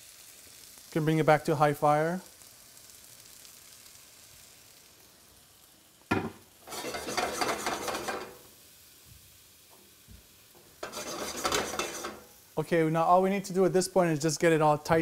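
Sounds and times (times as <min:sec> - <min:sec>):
food sizzling in frying pan: 0:00.0 - 0:14.1.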